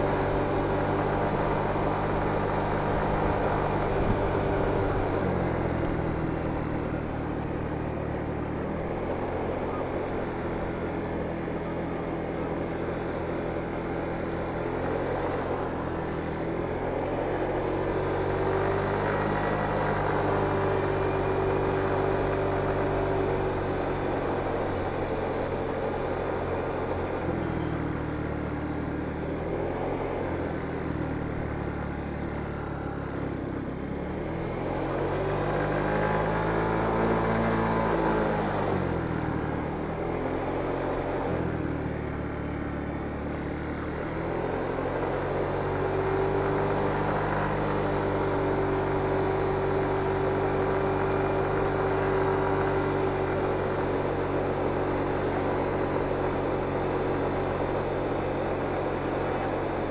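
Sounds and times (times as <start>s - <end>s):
motor scooter engine: 0.0s - 59.9s
wind and road noise: 0.0s - 59.9s.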